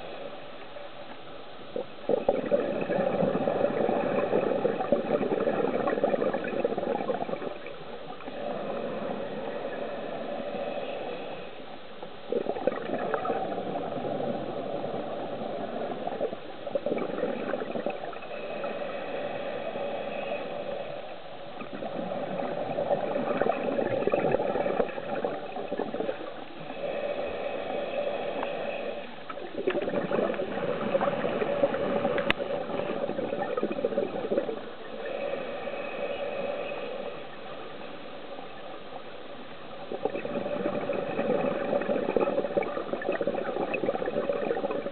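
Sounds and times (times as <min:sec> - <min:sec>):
underwater regulator bubbles gurgling: 0:01.0 - 0:11.4, 0:12.3 - 0:21.0, 0:21.6 - 0:38.8, 0:39.8 - 0:44.9.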